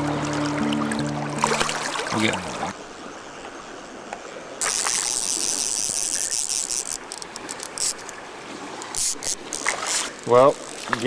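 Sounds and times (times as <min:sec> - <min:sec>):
fast river water rushing: 0:00.0 - 0:11.0
water splashing: 0:00.0 - 0:11.0.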